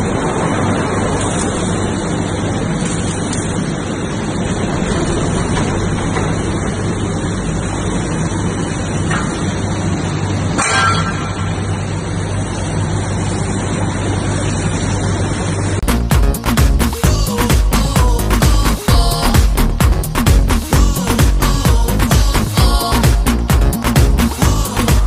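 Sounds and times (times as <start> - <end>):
crusher machinery drone: 0.0 - 25.0
machinery clatter: 0.0 - 25.0.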